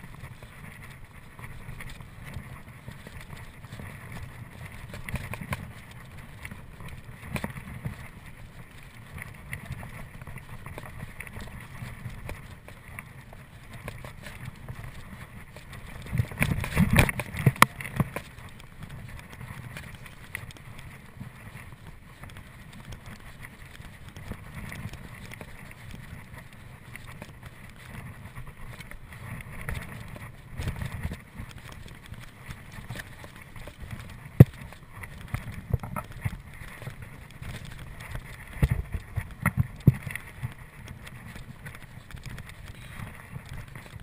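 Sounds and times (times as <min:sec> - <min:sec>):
mountain bike rattling on dirt trail: 0:00.0 - 0:44.0.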